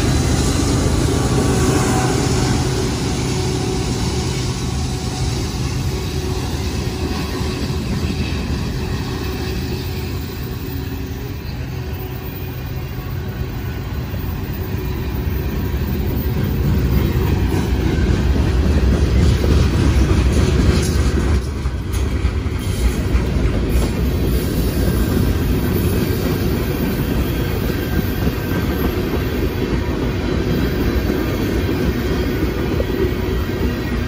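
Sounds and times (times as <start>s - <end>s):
steel wheels on rails: 0.0s - 34.0s.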